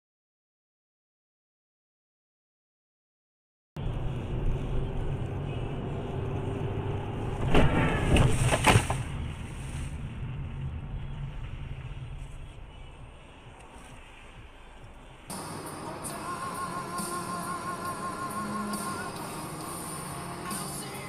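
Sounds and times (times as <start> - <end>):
car road and engine rumble: 3.8 - 21.0.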